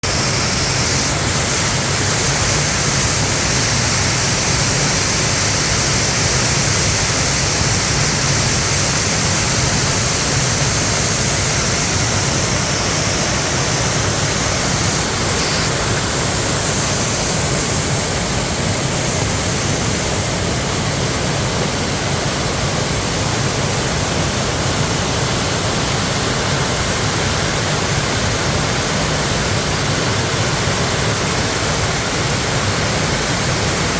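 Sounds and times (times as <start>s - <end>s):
stream rushing: 0.0s - 33.9s.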